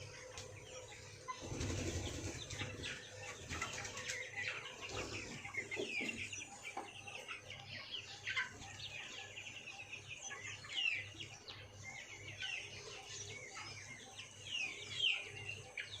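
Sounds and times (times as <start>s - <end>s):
chicks chirping and clucking: 0.0s - 16.0s.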